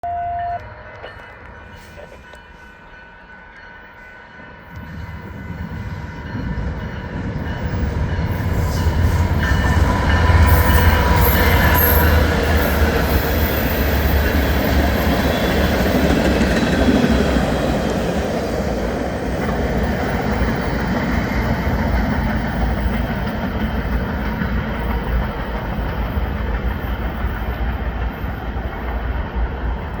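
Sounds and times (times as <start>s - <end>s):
train cars clattering on rails: 4.6s - 30.0s
diesel locomotive rumble: 4.8s - 30.0s.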